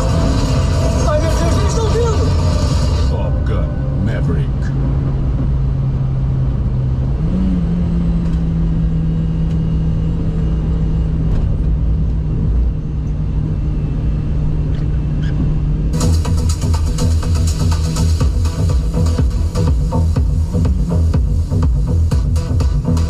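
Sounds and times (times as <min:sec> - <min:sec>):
pickup engine drone: 0:00.0 - 0:23.0
road noise: 0:00.0 - 0:23.0.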